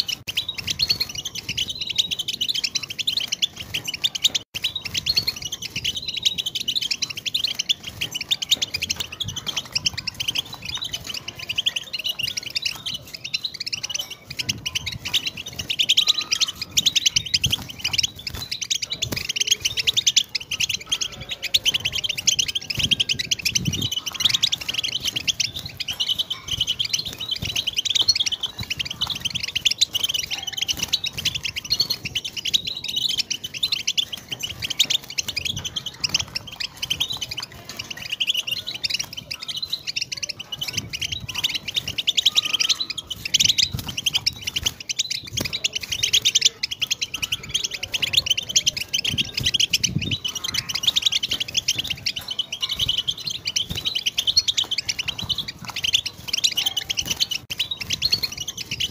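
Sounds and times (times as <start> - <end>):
bird twittering and trilling: 0.0 - 58.9.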